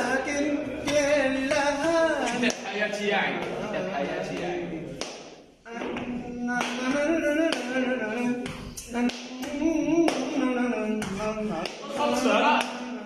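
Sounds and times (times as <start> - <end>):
man singing unaccompanied: 0.0 - 4.8, 5.6 - 13.0
sharp rhythmic taps: 0.8 - 13.0.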